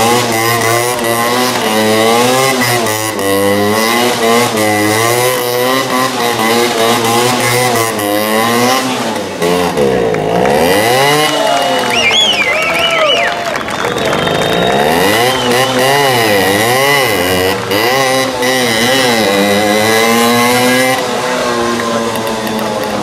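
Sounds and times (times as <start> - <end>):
moped engine revving: 0.0 - 23.0.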